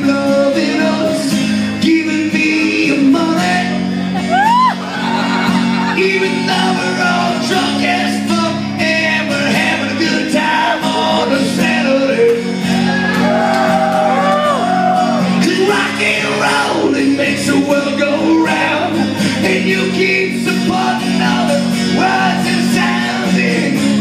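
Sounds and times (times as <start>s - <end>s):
man singing loudly: 0.0s - 4.5s, 5.4s - 24.0s
strummed acoustic guitar: 0.0s - 24.0s.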